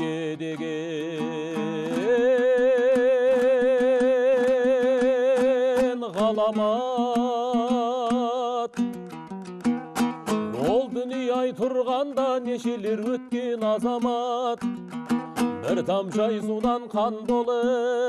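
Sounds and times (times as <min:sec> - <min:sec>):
plucked string instrument strumming: 0:00.0 - 0:18.0.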